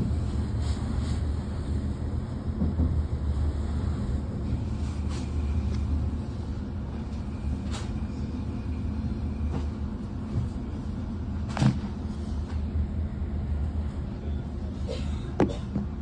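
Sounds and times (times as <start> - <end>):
train rumbling inside carriage: 0.0 - 16.0.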